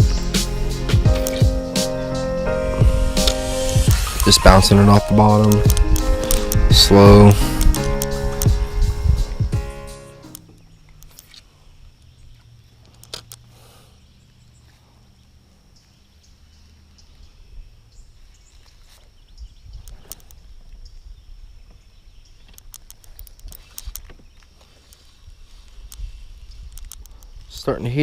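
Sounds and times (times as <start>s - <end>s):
low wind rumble: 0.0s - 18.5s, 19.2s - 23.9s, 25.1s - 28.0s.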